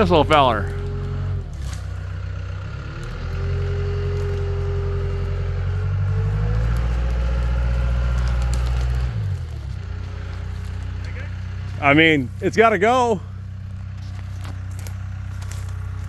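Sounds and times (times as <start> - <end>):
diesel engine revving under load: 0.0 - 16.0
hydraulic whine: 0.0 - 16.0.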